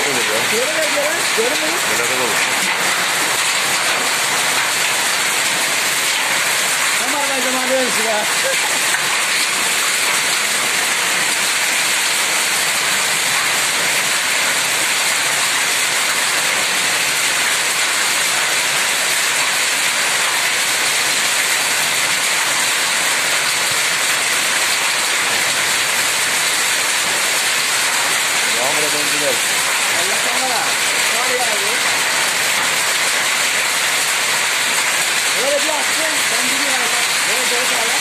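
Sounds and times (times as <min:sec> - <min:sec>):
hail and heavy rain pelting: 0:00.0 - 0:38.0.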